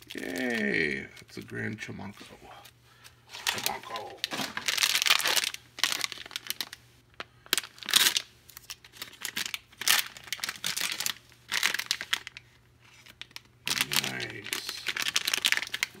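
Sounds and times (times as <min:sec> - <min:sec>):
plastic wrapper crackling and rustling: 0:00.0 - 0:02.3, 0:03.3 - 0:16.0.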